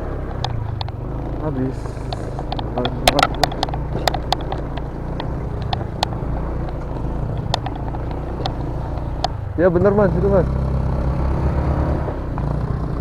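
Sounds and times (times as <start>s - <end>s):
vehicle engine running at low revs: 0.0s - 13.0s
vehicle knocking and rattling: 0.0s - 13.0s.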